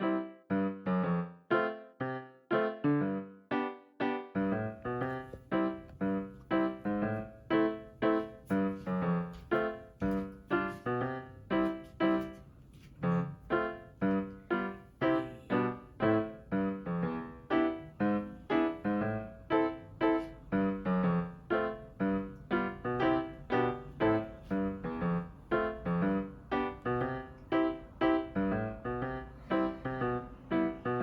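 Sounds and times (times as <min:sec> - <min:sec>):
light piano notes: 0:00.0 - 0:31.0.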